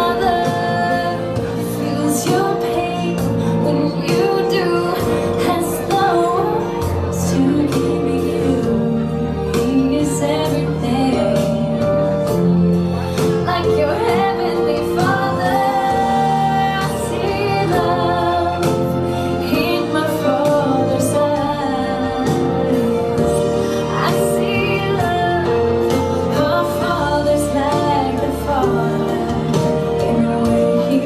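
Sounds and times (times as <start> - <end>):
woman singing love song: 0.0 - 12.4, 13.2 - 31.0
musical accompaniment: 0.0 - 31.0.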